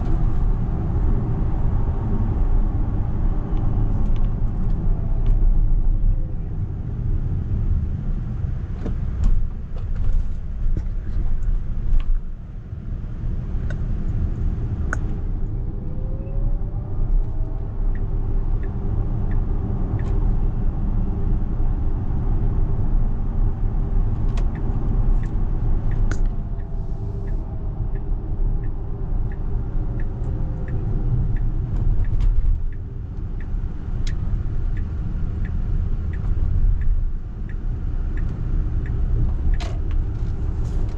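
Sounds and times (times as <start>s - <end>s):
tyre and road rumble: 0.0s - 40.9s.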